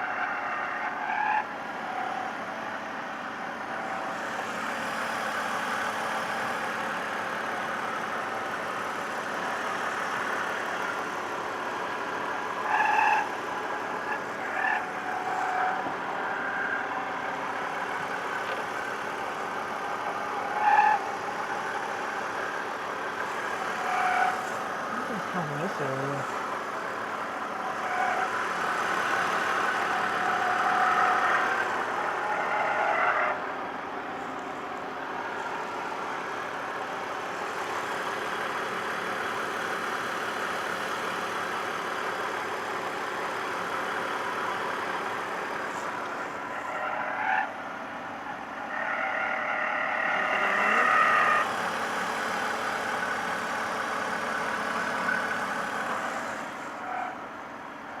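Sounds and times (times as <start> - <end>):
car squealing: 0.0 - 40.5, 41.1 - 57.8
car running noise: 0.0 - 58.0.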